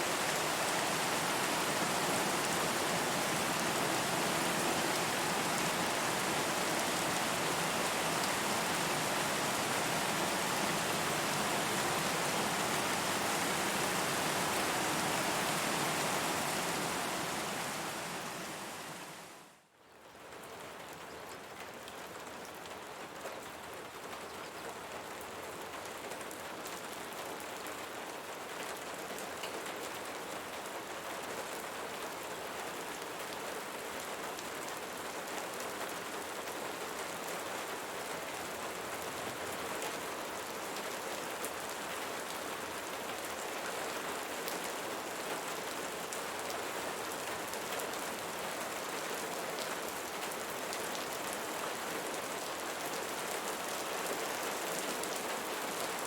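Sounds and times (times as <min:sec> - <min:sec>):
steady rain hiss: 0:00.0 - 0:19.7, 0:22.0 - 0:56.0.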